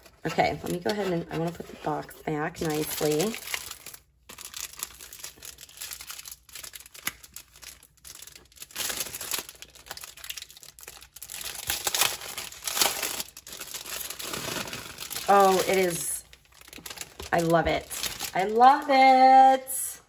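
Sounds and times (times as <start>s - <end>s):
plastic wrap crinkling: 0.0s - 19.3s.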